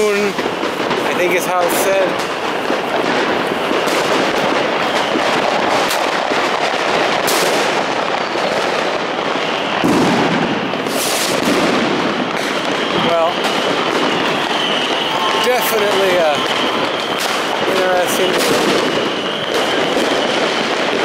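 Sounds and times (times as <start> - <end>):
firecrackers crackling: 0.0 - 21.0
loud firework bangs: 0.0 - 21.0.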